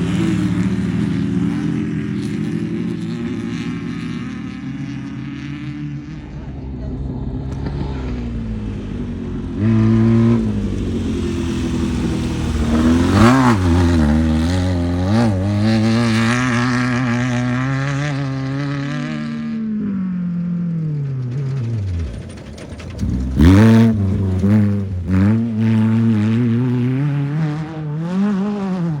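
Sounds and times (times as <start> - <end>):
race vehicle engine revving: 0.0 - 29.0.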